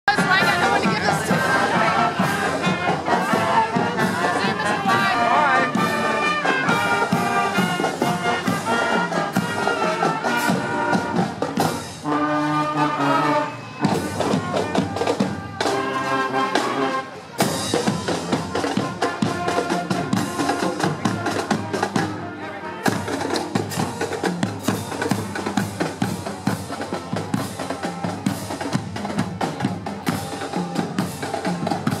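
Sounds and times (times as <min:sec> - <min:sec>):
drumline beat: 0:00.1 - 0:22.2, 0:22.8 - 0:32.0
brass instruments playing: 0:00.1 - 0:32.0.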